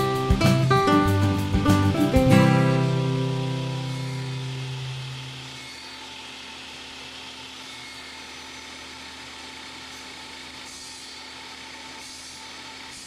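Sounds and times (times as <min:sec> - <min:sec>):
power tool running: 0:00.3 - 0:13.0.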